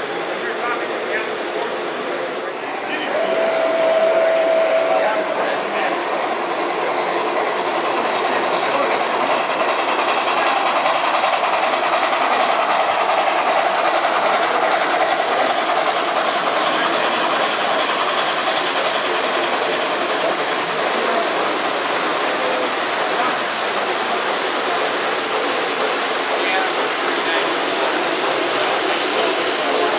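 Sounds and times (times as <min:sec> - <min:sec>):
model train rolling on metal track: 0:00.0 - 0:29.9.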